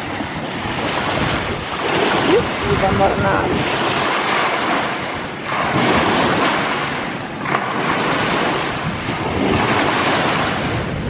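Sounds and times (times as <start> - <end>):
small waves washing onto shore: 0.0 - 11.0.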